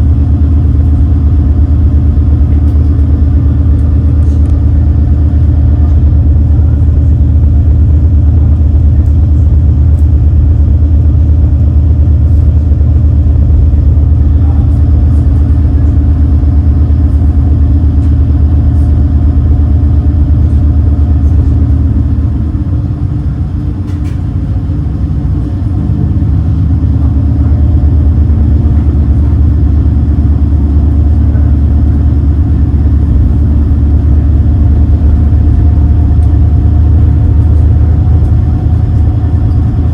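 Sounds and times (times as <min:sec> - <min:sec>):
boat engines droning: 0:00.0 - 0:39.9.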